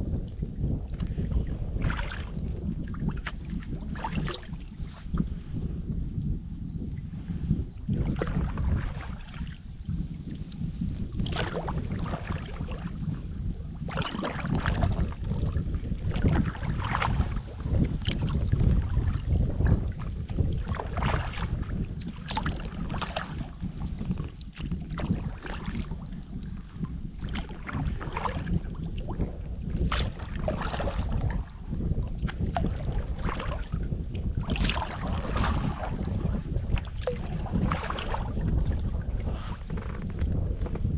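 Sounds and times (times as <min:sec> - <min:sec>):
wind rumble on microphone: 0:00.0 - 0:40.9
paddle splashing and dripping: 0:00.3 - 0:05.1, 0:07.9 - 0:13.1, 0:13.8 - 0:40.9.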